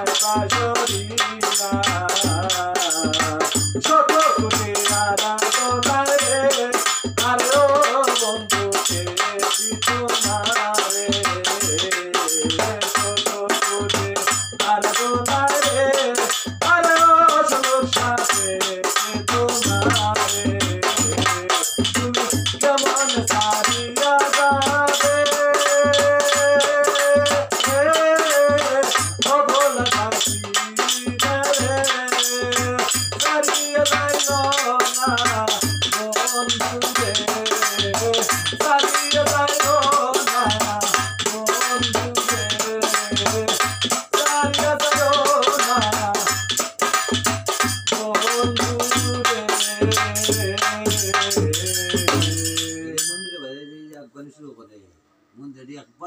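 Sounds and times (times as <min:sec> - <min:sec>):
barrel drum beating: 0:00.0 - 0:52.8
man singing into a microphone: 0:00.0 - 0:53.8
small hand cymbals jingling: 0:00.0 - 0:54.0.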